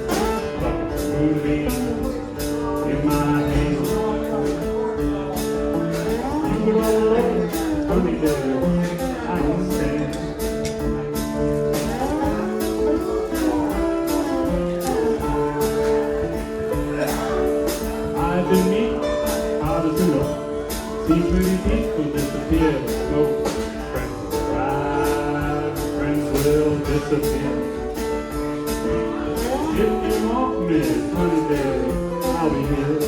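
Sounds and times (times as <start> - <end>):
rhythm guitar strumming: 0.0 - 33.0
slide guitar melody: 0.0 - 33.0.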